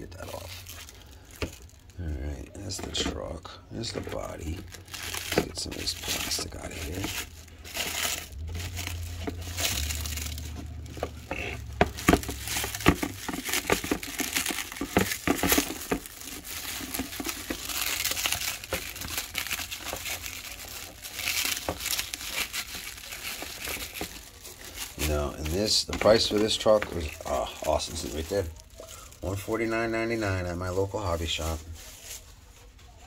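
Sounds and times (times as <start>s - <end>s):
plastic wrap crinkling: 0.0s - 33.0s.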